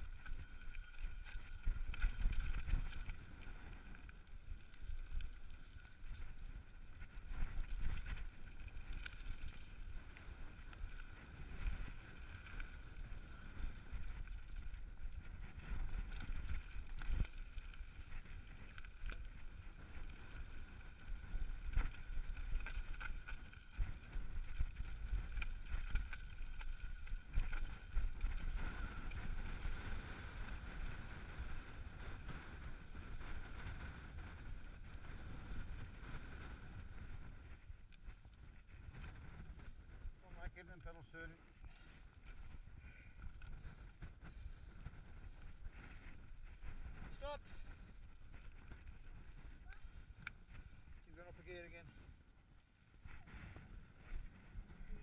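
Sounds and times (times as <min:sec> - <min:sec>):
bike knocking and rattling: 0:00.0 - 0:40.1, 0:40.9 - 0:55.0.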